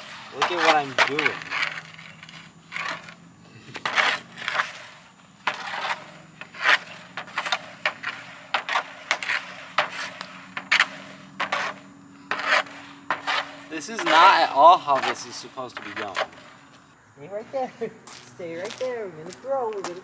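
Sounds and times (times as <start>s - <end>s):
hockey stick scraping puck: 0.0s - 16.9s.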